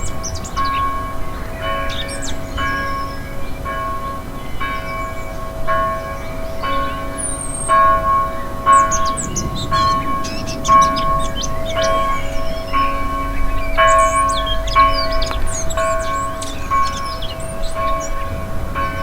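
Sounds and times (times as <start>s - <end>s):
birds twittering: 0.0s - 19.0s
church bell tolling: 0.0s - 19.0s.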